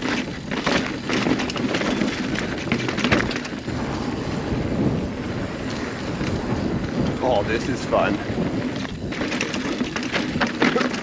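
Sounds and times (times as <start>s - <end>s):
mountain bike rolling over dirt: 0.0s - 11.0s.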